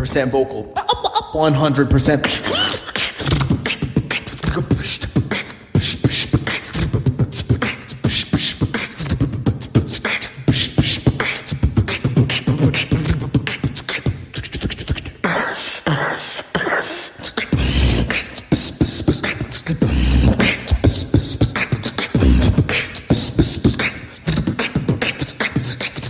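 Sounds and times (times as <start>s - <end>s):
beatboxing clicks and thumps: 0.0s - 26.0s.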